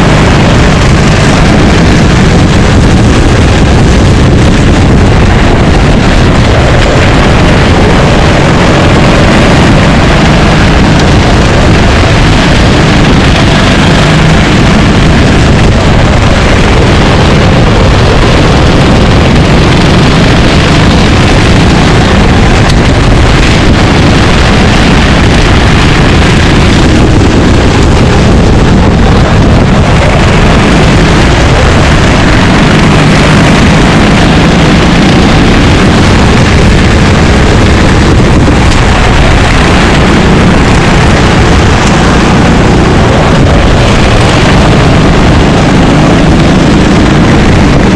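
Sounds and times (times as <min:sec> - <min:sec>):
racing kart engine: 0:00.0 - 0:47.9
wind noise on microphone: 0:00.0 - 0:47.9.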